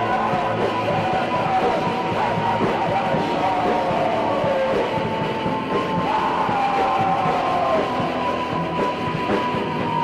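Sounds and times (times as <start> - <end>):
distorted black metal noise: 0.0 - 10.0
high held melody line: 0.0 - 10.0.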